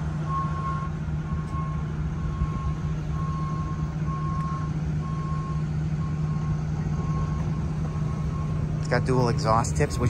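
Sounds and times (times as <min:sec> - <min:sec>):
engine idling low rumble: 0:00.0 - 0:10.0.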